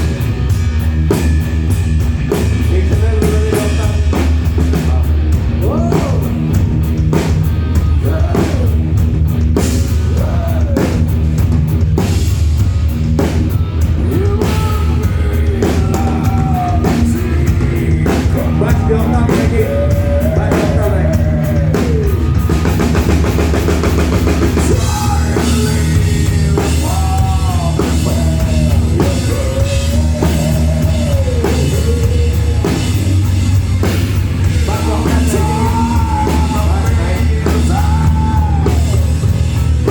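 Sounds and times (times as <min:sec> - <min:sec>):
drum kit with cymbal strikes: 0:00.0 - 0:39.9
electric guitar lead line: 0:00.0 - 0:39.9.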